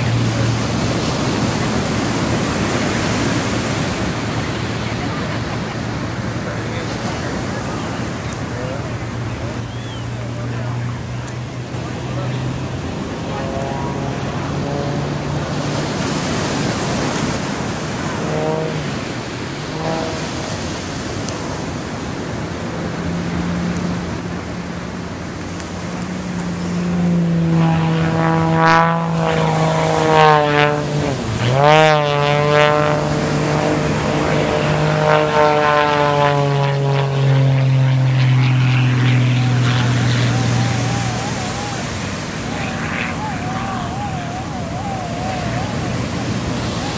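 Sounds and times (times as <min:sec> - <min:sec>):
ocean surf breaking: 0:00.0 - 0:46.9
propeller plane engine drone: 0:00.0 - 0:46.9.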